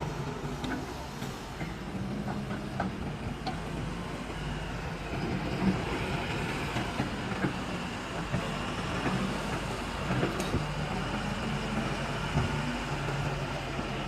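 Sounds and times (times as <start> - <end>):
heavy diesel machinery running: 0.0 - 14.0.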